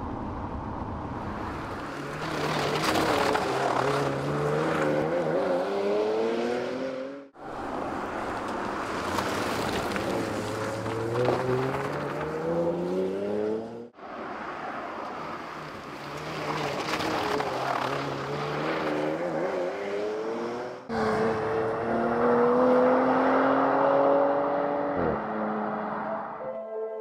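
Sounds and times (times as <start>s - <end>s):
road and tyre noise: 0.0s - 27.0s.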